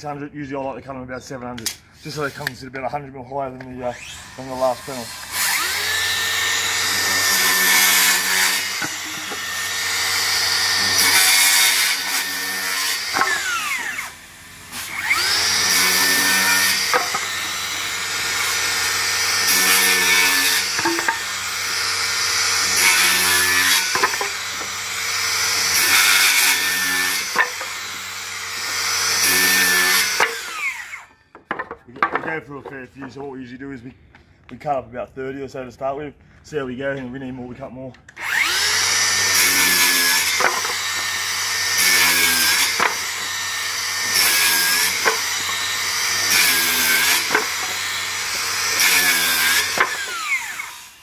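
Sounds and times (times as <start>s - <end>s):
circular saw cutting timber: 2.0s - 32.8s, 38.2s - 51.0s.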